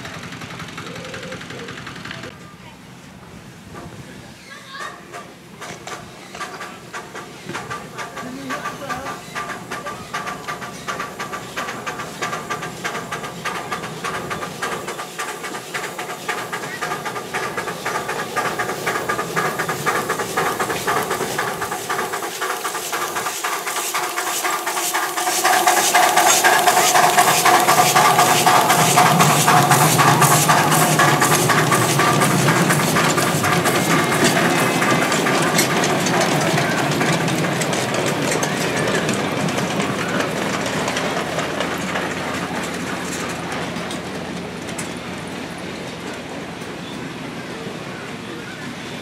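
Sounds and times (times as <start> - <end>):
steam locomotive exhaust beats: 2.9 - 49.0
hissing steam: 5.0 - 49.0.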